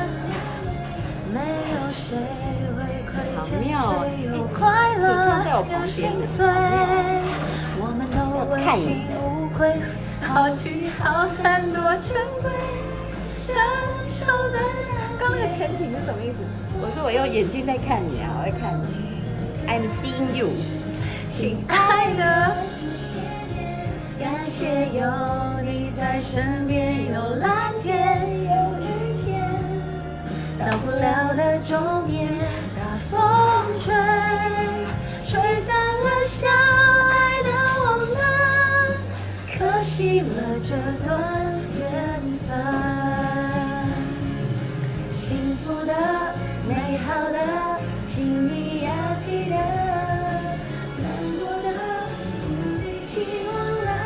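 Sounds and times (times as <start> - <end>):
bass and drums: 0.0 - 54.0
woman singing: 0.0 - 54.0.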